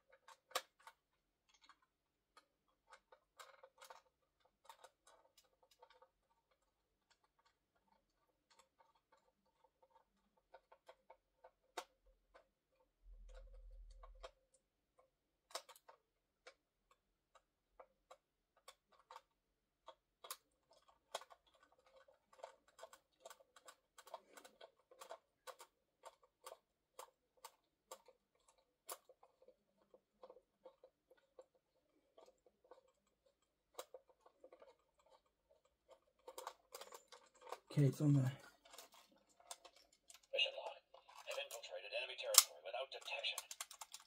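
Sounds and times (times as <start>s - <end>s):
plastic toy parts clicking: 0.0s - 40.3s, 40.9s - 44.0s.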